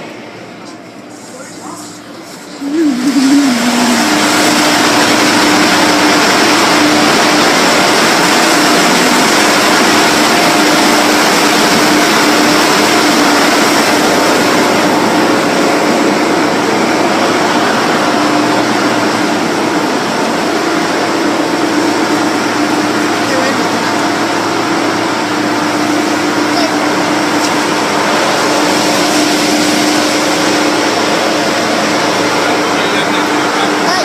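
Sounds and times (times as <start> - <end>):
air blower rushing: 0.0 - 34.0
blower motor humming: 0.0 - 34.0.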